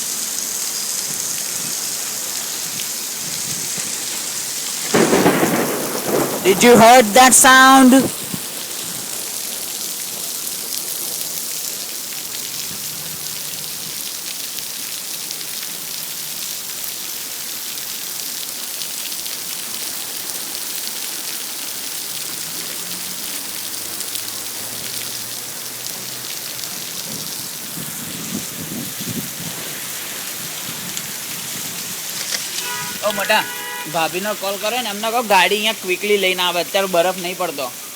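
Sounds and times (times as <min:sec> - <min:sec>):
heavy rain falling: 0:00.0 - 0:37.9.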